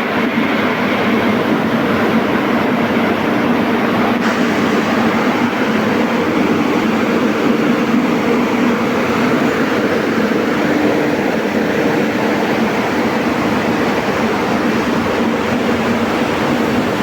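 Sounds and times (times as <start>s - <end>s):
corn dryer fan rushing: 0.0s - 17.0s.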